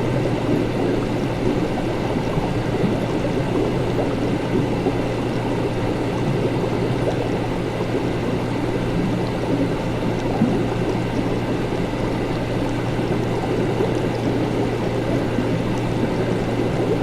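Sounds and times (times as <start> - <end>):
liquid bubbling and flowing: 0.0 - 17.0
low equipment hum: 0.0 - 17.0.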